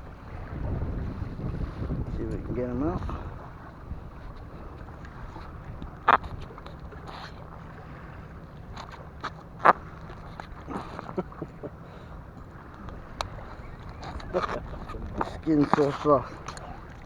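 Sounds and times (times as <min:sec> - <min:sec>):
surf: 0:00.0 - 0:17.0
wind: 0:00.0 - 0:17.0.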